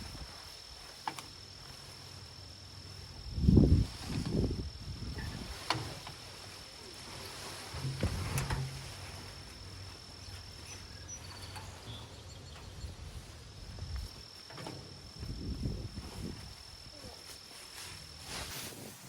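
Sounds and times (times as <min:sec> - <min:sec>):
low rustles and thumps: 0:03.2 - 0:19.0.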